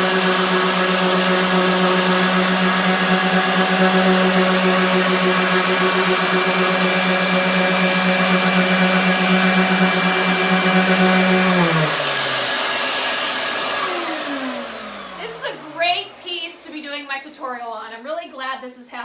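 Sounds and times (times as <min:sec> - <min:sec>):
orbital sander running: 0:00.0 - 0:17.7
shop vac running: 0:00.0 - 0:18.4.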